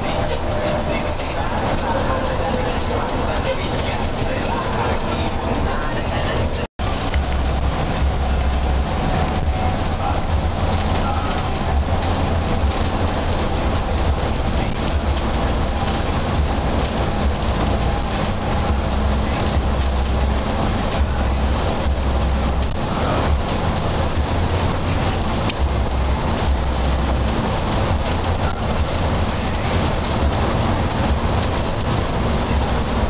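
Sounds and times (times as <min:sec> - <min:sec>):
bus engine drone and road rumble: 0:00.0 - 0:33.0.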